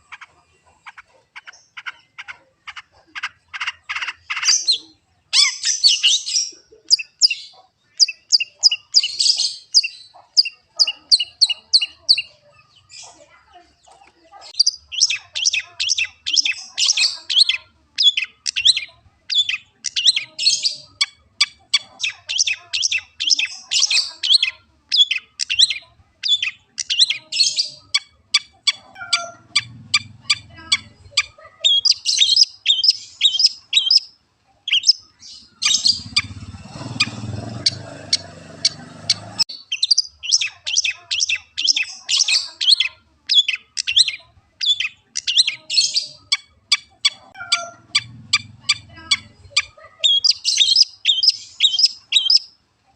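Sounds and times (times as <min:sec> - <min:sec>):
bird singing high chattering notes: 0:03.2 - 0:13.1, 0:14.6 - 0:34.1, 0:34.7 - 0:52.5.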